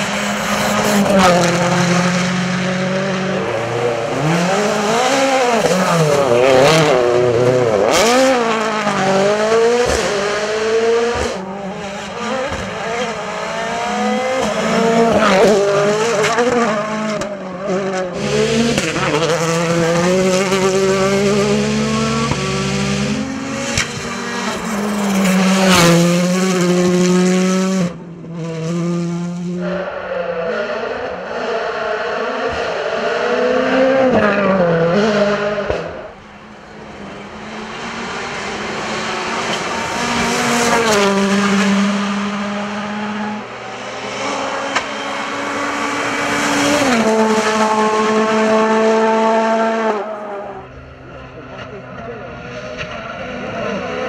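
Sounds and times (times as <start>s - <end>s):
rally car engines revving past: 0.0s - 54.0s.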